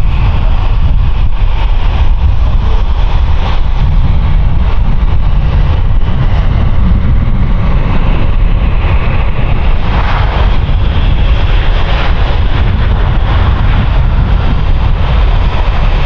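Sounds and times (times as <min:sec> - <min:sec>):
jet engines rumbling on landing: 0:00.0 - 0:16.0.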